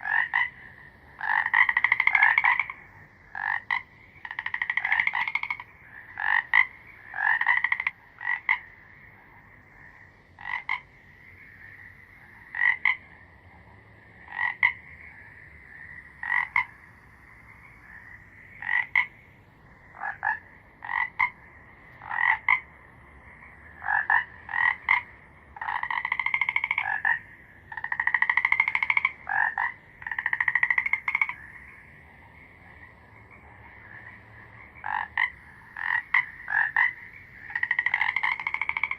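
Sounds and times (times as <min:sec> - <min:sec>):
frog croaking: 0:00.0 - 0:38.9.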